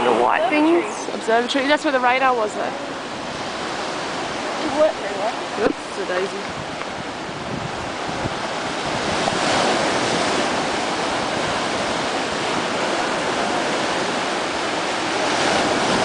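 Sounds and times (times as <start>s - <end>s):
waves breaking on rocky shore: 0.0s - 16.0s.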